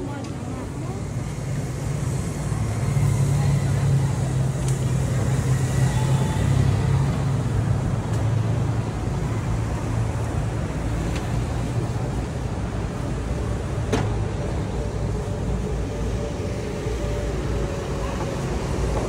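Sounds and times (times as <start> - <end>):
vehicles passing with low hum: 0.0 - 19.0.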